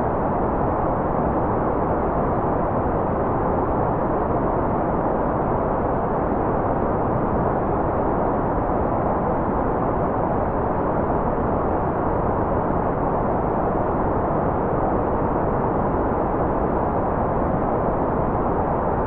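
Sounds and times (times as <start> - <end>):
white noise: 0.0 - 19.0.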